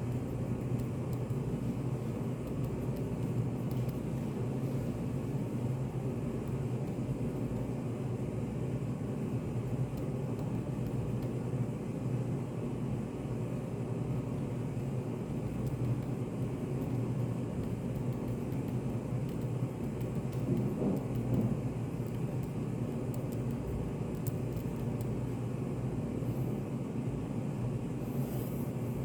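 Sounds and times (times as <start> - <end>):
low room rumble and hum: 0.0 - 29.0.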